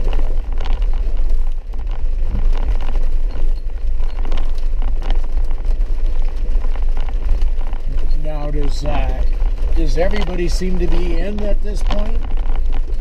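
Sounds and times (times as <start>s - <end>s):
low rumble of engine and road: 0.0s - 13.0s.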